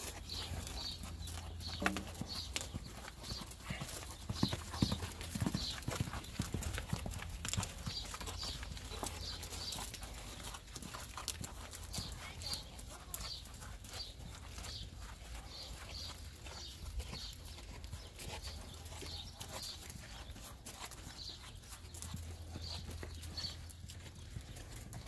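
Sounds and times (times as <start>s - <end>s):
horse hooves walking on sand: 0.0s - 25.0s.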